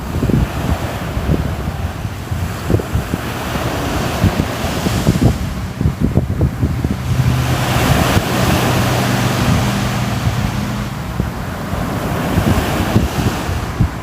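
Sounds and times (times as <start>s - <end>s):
ocean wave washing in: 0.0s - 14.0s.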